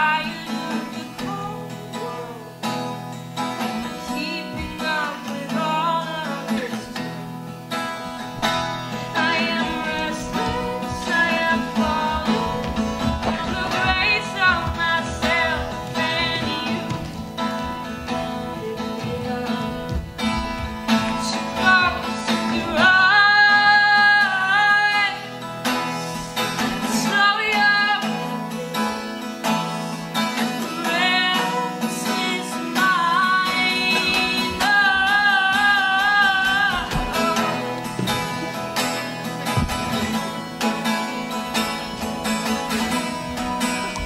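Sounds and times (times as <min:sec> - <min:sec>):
woman singing: 0:00.0 - 0:03.0, 0:03.6 - 0:07.2, 0:08.9 - 0:29.1, 0:29.8 - 0:40.6
acoustic guitar: 0:00.0 - 0:44.0.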